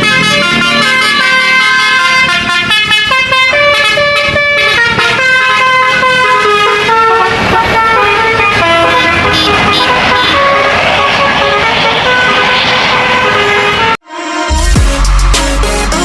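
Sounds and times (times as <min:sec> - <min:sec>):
musical bus horn playing a tune: 0:00.0 - 0:15.9.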